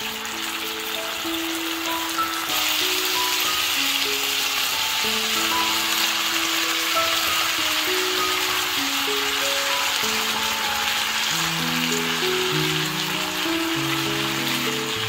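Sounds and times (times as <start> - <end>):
chicken sizzling in oil: 0.0 - 15.0
soft background music: 0.0 - 15.0.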